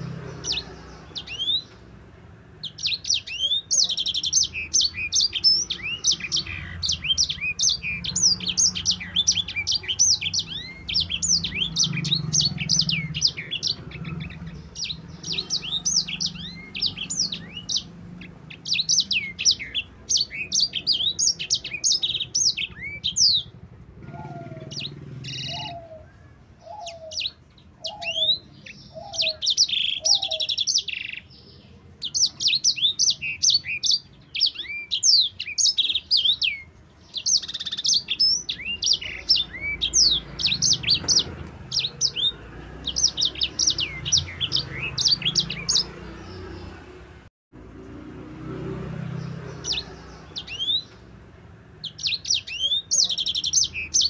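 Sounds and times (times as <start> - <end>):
songbird chirps and trills: 0.0 - 47.2, 47.8 - 54.0.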